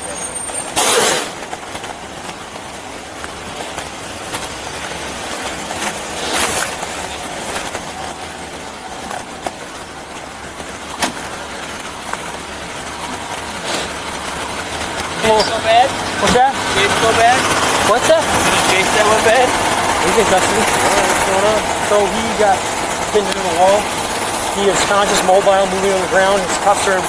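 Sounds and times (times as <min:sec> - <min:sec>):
outdoor noise: 0:00.0 - 0:27.0
vehicle engine idling: 0:00.0 - 0:27.0.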